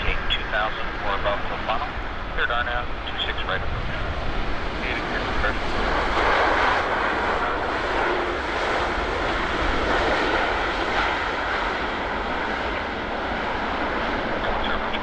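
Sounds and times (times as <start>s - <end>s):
jet airliner landing: 0.0s - 15.0s.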